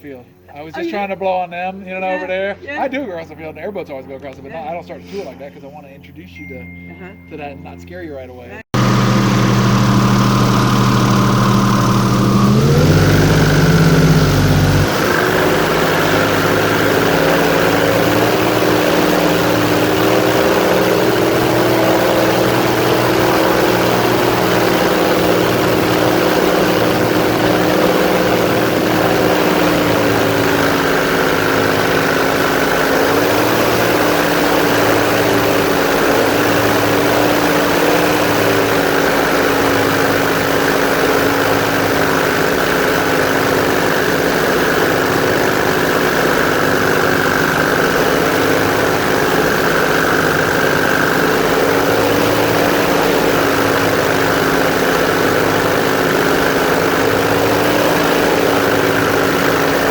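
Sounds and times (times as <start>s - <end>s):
airboat engine and propeller: 8.7s - 59.9s.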